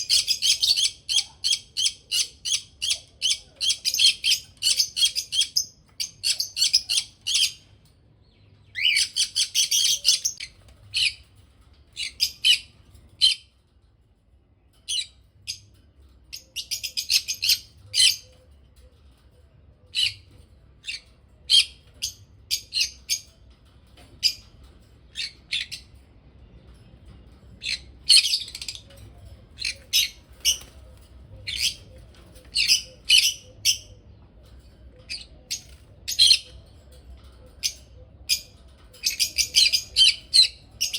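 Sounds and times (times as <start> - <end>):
parrots chirping and squawking: 0.0 - 7.9, 8.6 - 13.6, 14.8 - 26.0, 27.0 - 40.9.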